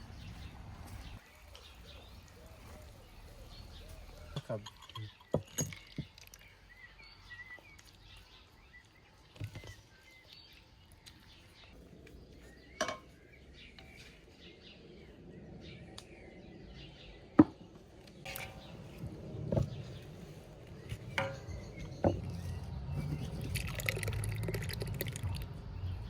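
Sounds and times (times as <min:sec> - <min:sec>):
outdoor background noise: 0:00.0 - 0:26.0
small birds chirping: 0:00.0 - 0:26.0.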